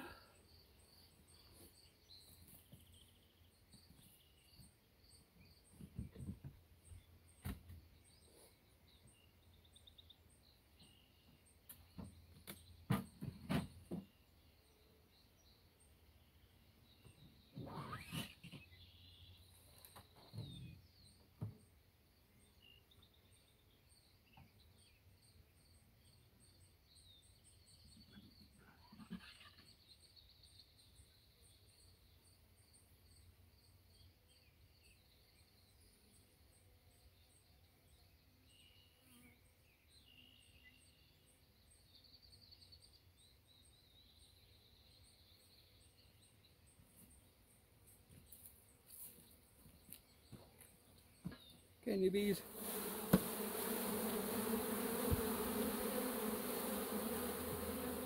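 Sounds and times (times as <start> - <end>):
light birdsong: 0.0 - 58.0.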